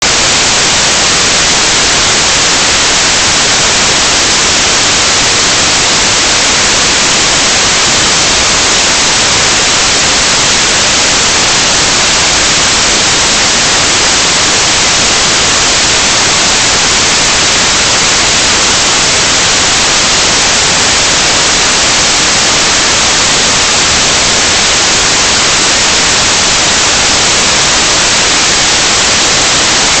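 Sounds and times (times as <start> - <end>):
white noise hiss: 0.0 - 30.0.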